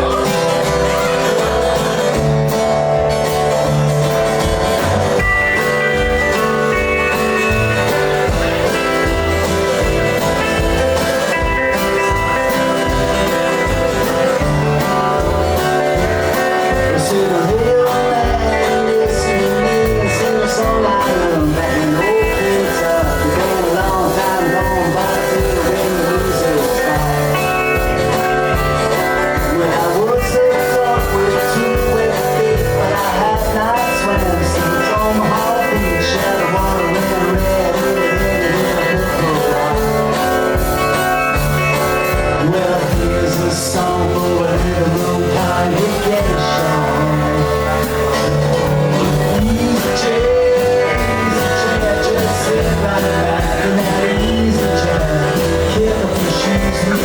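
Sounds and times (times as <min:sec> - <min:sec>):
band playing blues rock: 0:00.0 - 0:57.0
person singing lead vocal: 0:00.0 - 0:57.0.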